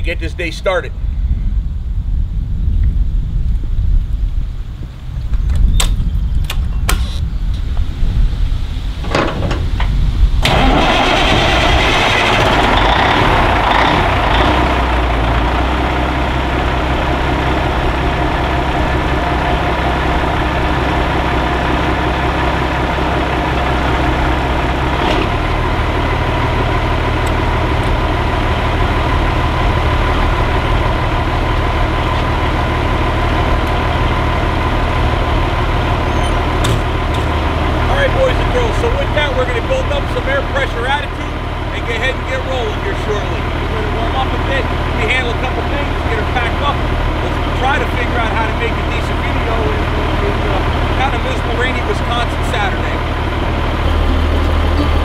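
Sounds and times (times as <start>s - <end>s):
diesel truck engine starting and idling: 8.8s - 55.0s.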